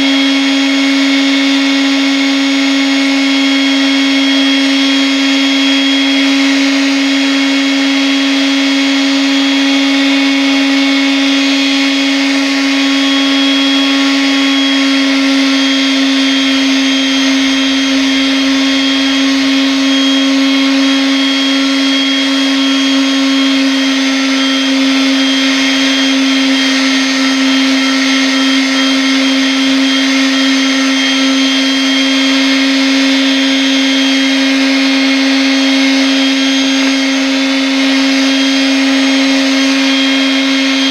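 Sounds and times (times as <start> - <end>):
power sander motor whine: 0.0 - 40.9.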